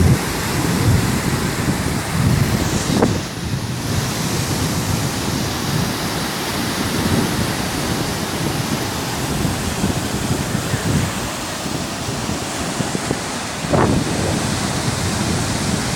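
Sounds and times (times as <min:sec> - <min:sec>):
waves washing on shore: 0:00.0 - 0:15.9
wind buffeting microphone: 0:00.0 - 0:15.9.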